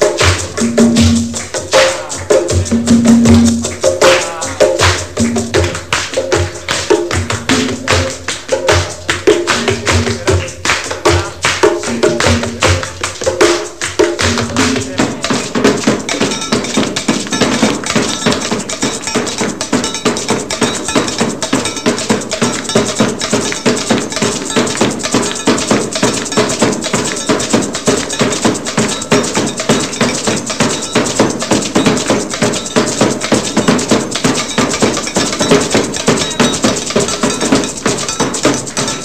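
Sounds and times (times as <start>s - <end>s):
gourd shaker: 0.0s - 39.0s
hand drums: 0.0s - 39.0s.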